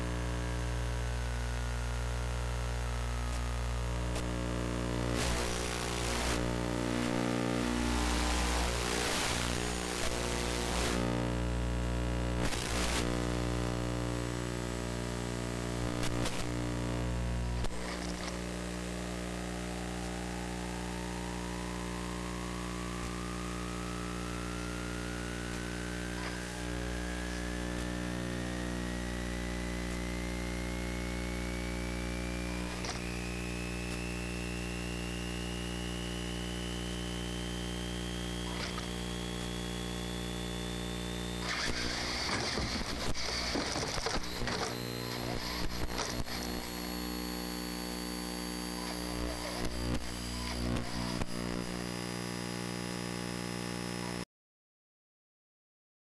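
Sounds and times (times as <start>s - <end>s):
electrical hum and buzz: 0.0s - 54.2s.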